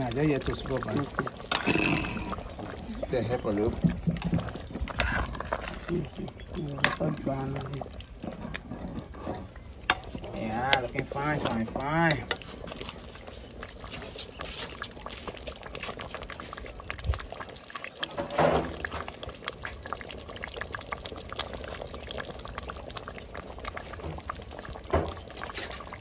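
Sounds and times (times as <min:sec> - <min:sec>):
soup bubbling at the boil: 0:00.0 - 0:26.0.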